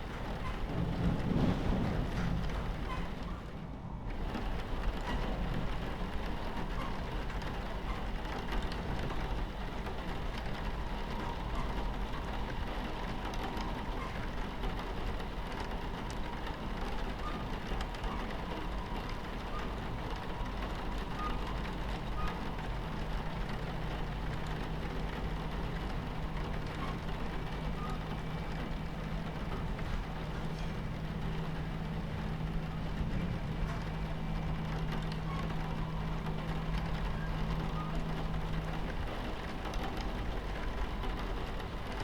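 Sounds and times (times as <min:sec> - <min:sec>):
rain pattering on window: 0:00.0 - 0:42.0
train rumbling on tracks: 0:00.0 - 0:42.0.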